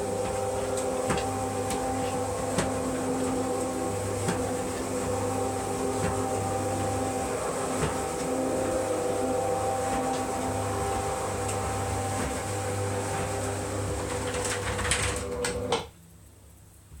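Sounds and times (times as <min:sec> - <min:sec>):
garage door motor humming: 0:00.0 - 0:15.9.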